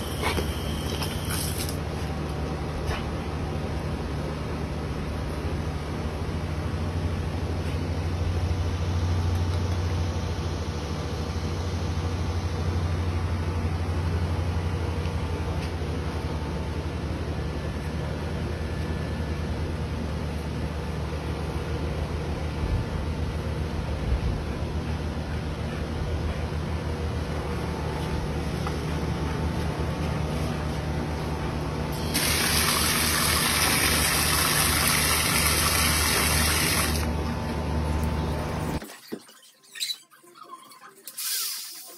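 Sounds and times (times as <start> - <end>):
steady low hum: 0.0 - 38.8.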